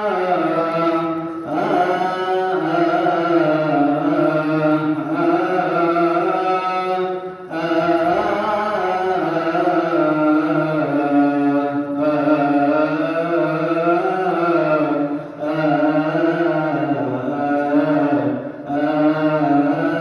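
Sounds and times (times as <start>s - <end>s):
man chanting a hymn: 0.0s - 20.0s.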